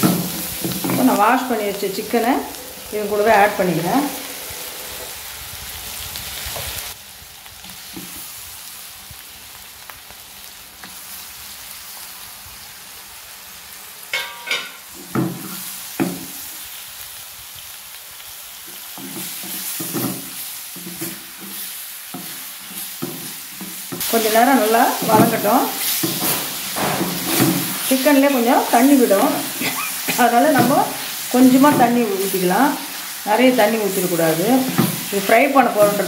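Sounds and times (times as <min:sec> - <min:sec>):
food sizzling in a pot: 0:00.0 - 0:36.0.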